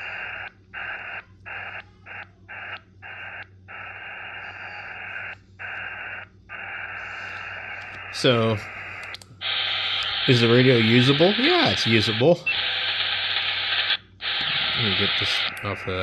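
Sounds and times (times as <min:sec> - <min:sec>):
radio receiver hiss: 0:00.0 - 0:16.0.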